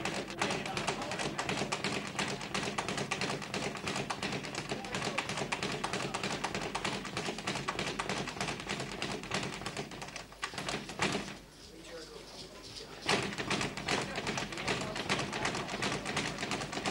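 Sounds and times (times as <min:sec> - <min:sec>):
boxing gloves striking: 0:00.0 - 0:11.4, 0:13.1 - 0:16.9.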